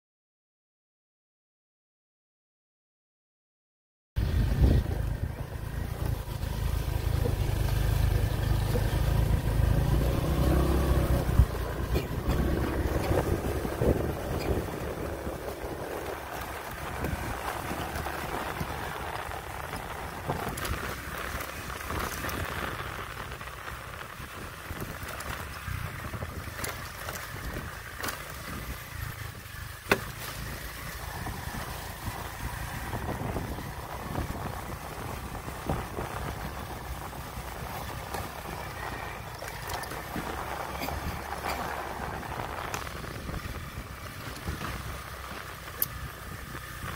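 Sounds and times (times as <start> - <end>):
motorbike engine running: 4.2 - 46.9
wind rumble on microphone: 4.2 - 46.9.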